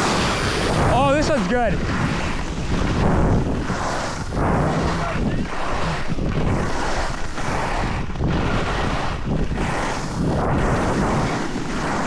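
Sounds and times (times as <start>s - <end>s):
skis scraping on snow: 0.0s - 12.0s
wind on microphone: 0.0s - 12.0s.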